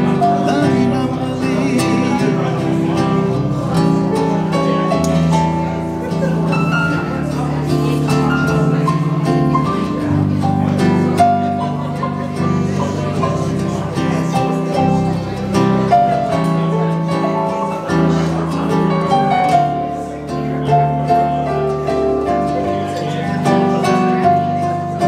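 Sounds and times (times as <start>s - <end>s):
acoustic guitar plucking: 0.0s - 25.0s
electric keyboard chords: 0.0s - 25.0s.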